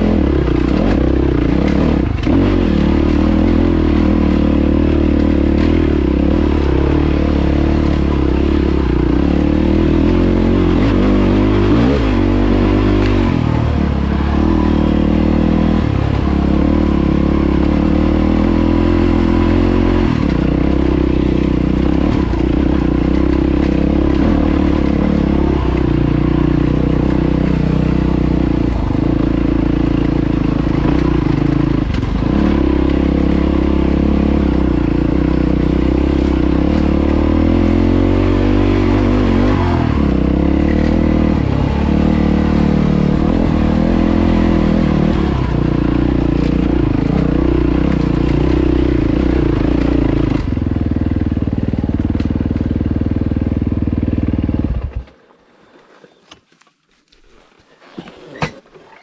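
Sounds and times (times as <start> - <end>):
motorcycle engine revving: 0.0 - 55.2.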